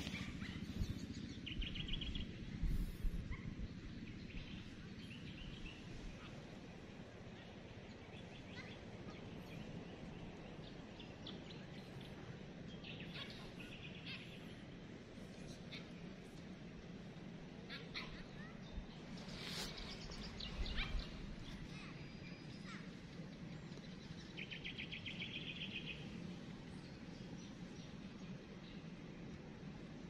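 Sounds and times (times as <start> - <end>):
birds chirping: 0.0 - 29.3
low outdoor rumble: 0.0 - 30.0.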